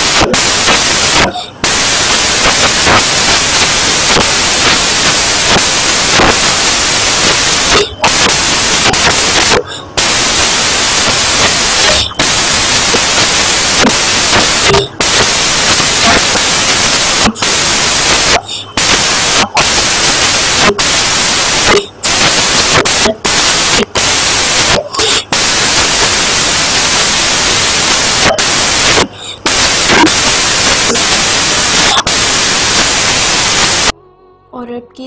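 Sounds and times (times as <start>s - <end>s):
static-like hiss: 0.0s - 34.0s.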